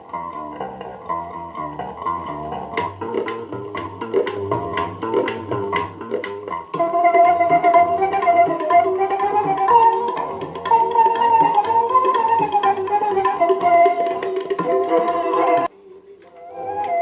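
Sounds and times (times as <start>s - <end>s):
music on old radio: 0.0s - 17.0s.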